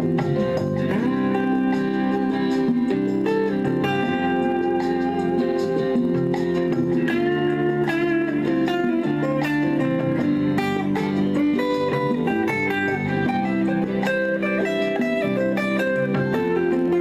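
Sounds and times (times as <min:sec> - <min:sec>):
lead melody: 0:00.0 - 0:17.0.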